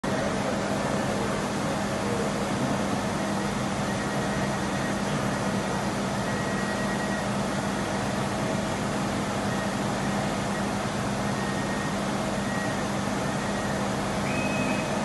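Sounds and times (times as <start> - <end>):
laser cutting machine humming: 0.1 - 15.0.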